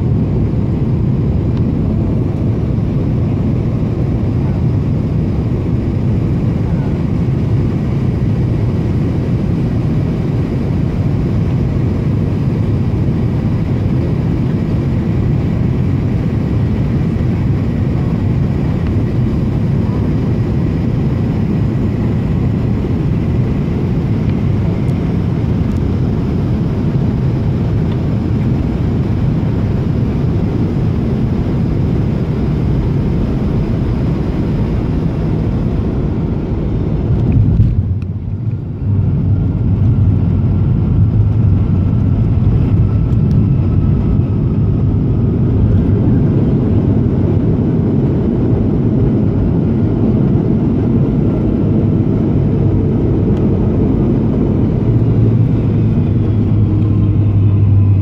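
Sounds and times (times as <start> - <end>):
airliner cabin airflow rush: 0.0 - 58.0
jet engines running: 0.0 - 58.0.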